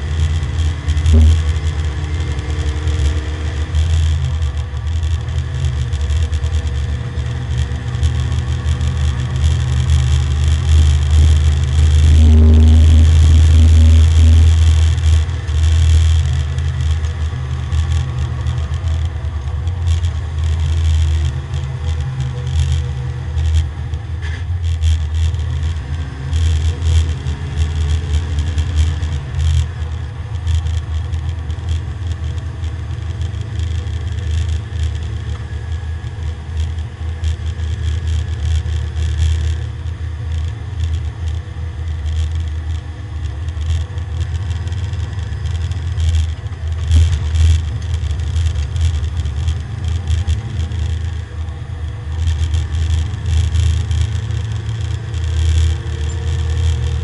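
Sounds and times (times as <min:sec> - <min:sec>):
race car engine drone: 0:00.0 - 0:57.0
road and tyre noise: 0:00.0 - 0:57.0.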